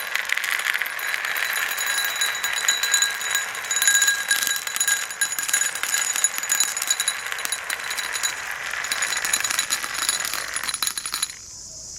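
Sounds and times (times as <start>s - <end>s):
marbles clattering down a track: 0.0s - 11.6s.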